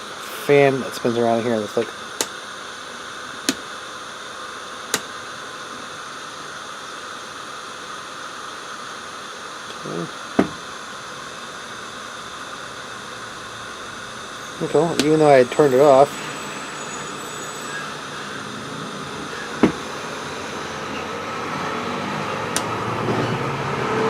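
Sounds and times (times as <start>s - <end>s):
fan blowing airy hiss: 0.0s - 24.0s.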